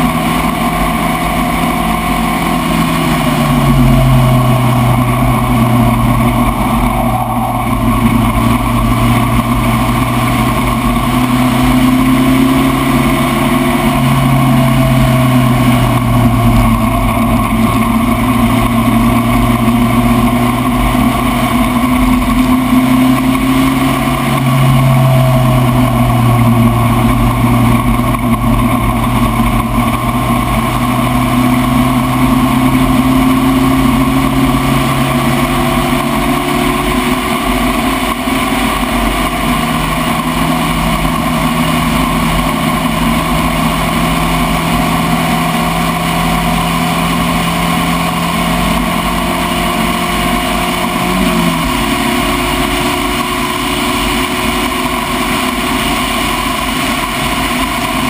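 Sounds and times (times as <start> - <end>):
race car engine running: 0.0 - 58.0.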